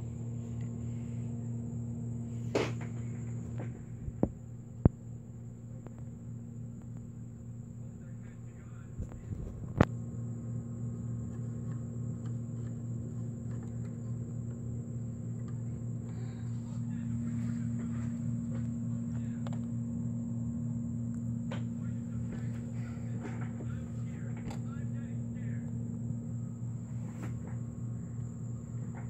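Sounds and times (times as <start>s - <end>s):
faint high whine: 0.0s - 29.0s
low electrical hum: 0.0s - 29.0s.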